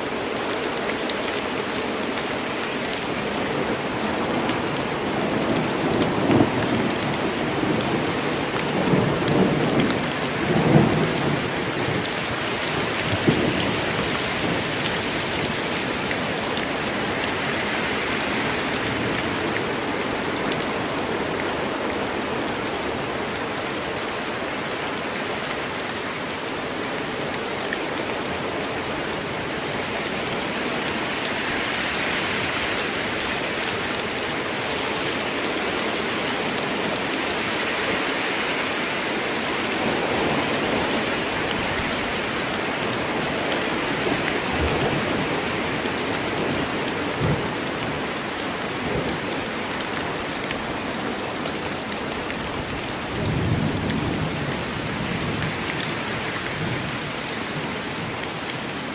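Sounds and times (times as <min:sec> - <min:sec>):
rain on leaves and ground: 0:00.0 - 0:58.9.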